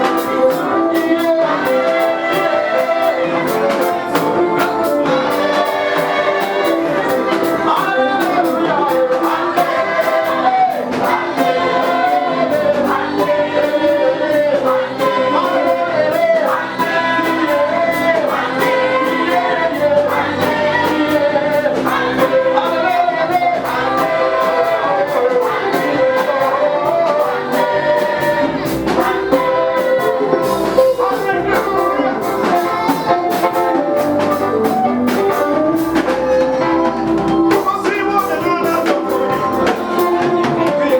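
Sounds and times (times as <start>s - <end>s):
gospel singing with band: 0.0s - 40.9s
steady drum beat: 0.0s - 40.9s.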